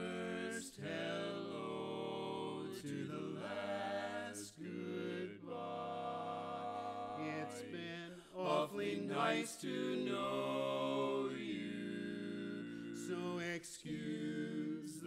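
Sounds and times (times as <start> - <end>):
male quartet singing a cappella: 0.0 - 15.0.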